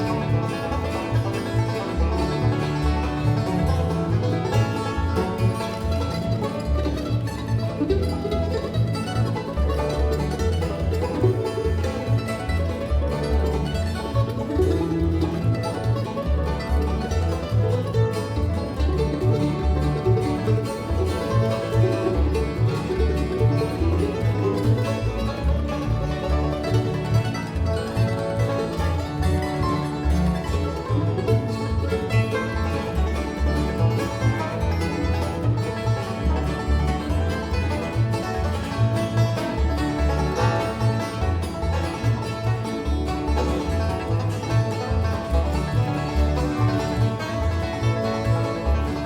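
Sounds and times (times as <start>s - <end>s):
banjo: 0.0s - 49.0s
bluegrass band playing: 0.0s - 49.0s.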